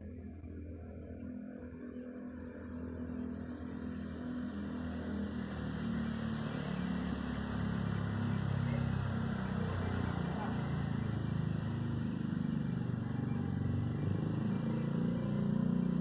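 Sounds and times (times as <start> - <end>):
vehicle engine approaching: 0.0 - 16.0.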